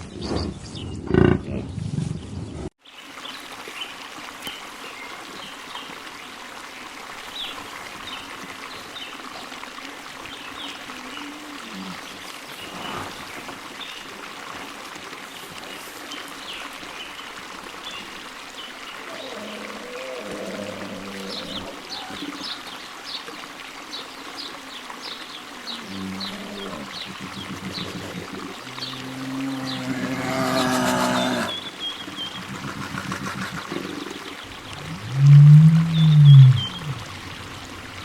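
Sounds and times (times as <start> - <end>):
stream rushing: 2.9 - 38.0.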